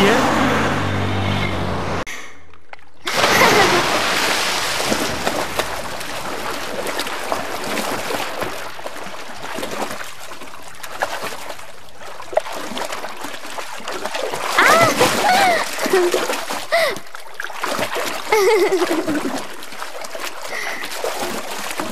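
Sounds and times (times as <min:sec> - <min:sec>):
pool water splashing: 0:02.7 - 0:21.9.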